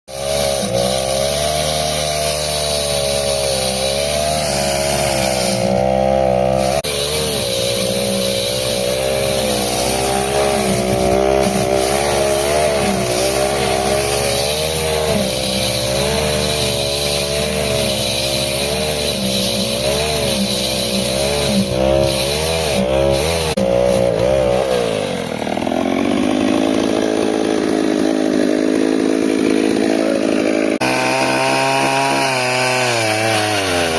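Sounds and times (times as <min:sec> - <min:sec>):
chainsaw cutting rubber tyre: 0:00.1 - 0:33.9.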